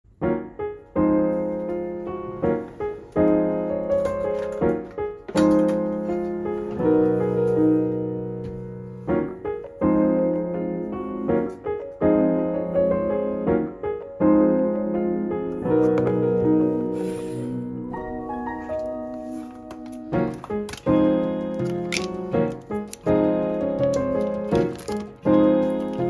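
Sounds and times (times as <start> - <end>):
solo piano music: 0.0 - 26.0.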